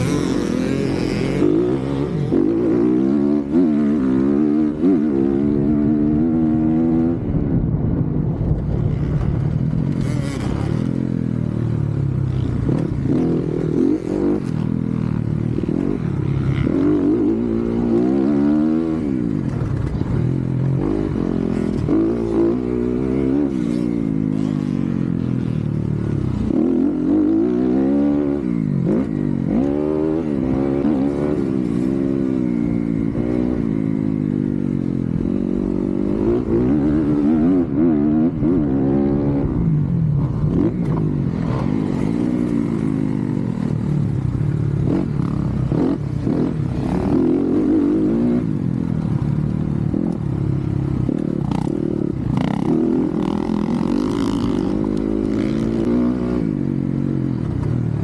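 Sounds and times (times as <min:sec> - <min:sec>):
dirt bike engine revving: 0:00.0 - 0:07.2, 0:08.9 - 0:39.6, 0:40.2 - 0:57.6.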